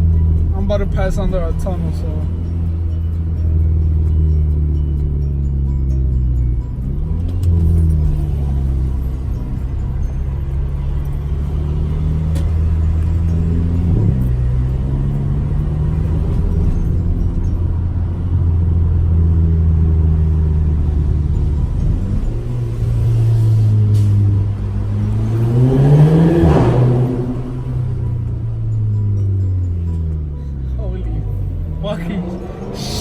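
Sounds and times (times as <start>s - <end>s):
car engine deep drone: 0.0s - 33.0s.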